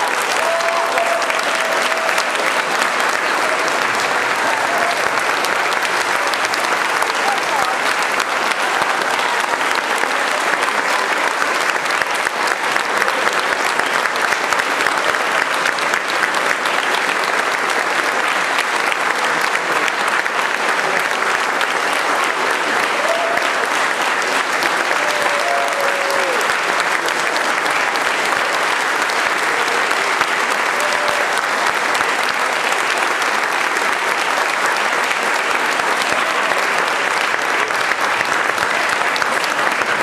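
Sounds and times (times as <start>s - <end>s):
audience applauding: 0.0s - 40.0s.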